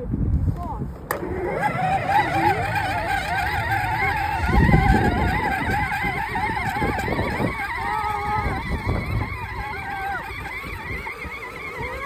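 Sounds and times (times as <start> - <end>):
electric motor whining: 1.1 - 12.0.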